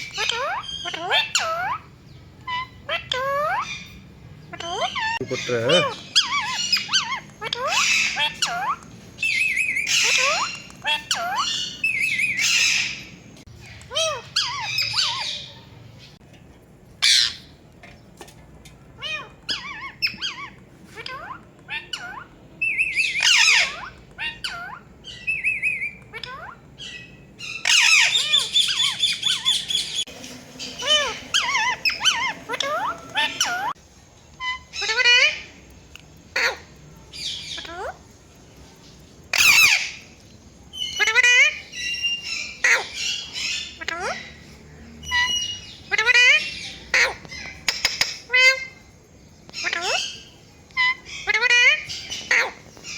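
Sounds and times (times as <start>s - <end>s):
parrot squawking and chirping: 0.0s - 16.2s, 17.0s - 17.6s, 18.9s - 38.2s, 39.3s - 40.2s, 40.8s - 48.9s, 49.5s - 52.9s.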